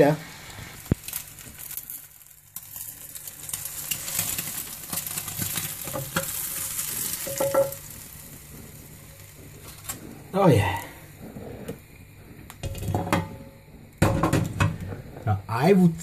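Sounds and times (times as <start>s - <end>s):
eggs sizzling in frying pan: 0.0s - 16.0s.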